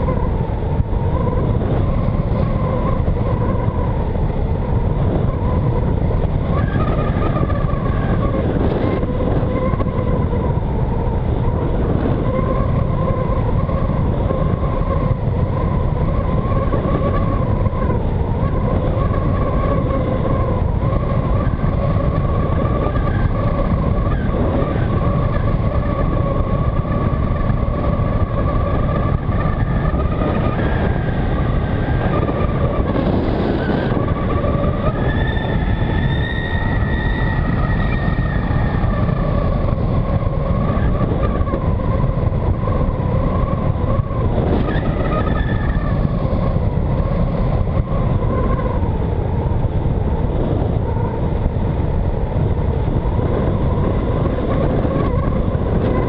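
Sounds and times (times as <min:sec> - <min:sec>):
higher whine: 0:00.0 - 0:56.0
model plane motor whine: 0:00.0 - 0:56.0
wind rush on microphone: 0:00.0 - 0:56.0.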